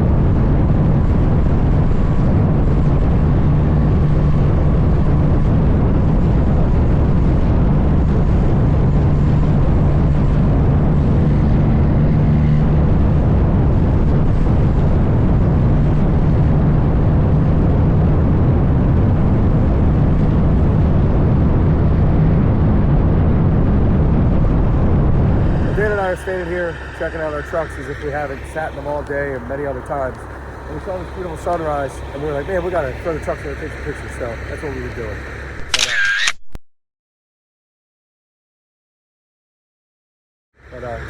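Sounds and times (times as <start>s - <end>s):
diesel truck engine droning: 0.0s - 35.7s, 40.6s - 41.0s.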